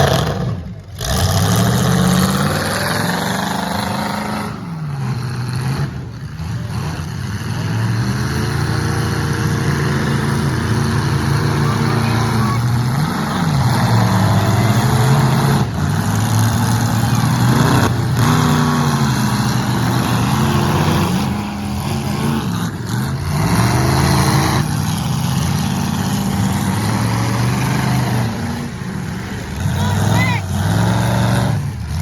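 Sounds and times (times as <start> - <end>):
car engines revving hard: 0.0 - 32.0.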